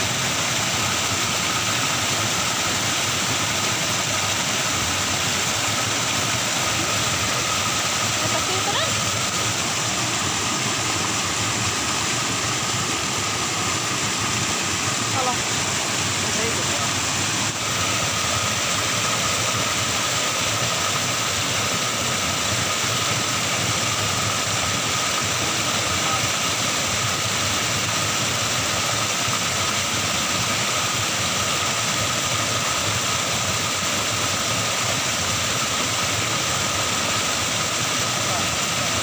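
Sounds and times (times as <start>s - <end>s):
waterfall pouring into stream: 0.0s - 39.0s.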